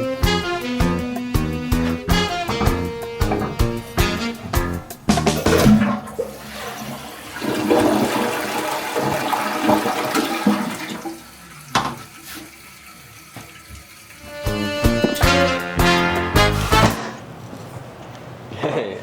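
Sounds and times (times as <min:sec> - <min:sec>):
toilet flushing: 0:00.0 - 0:17.2.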